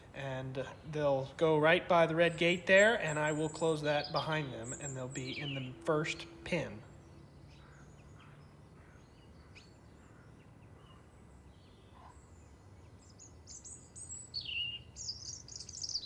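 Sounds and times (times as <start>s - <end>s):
birds chirping: 0.0s - 16.0s
low background hum: 0.0s - 16.0s.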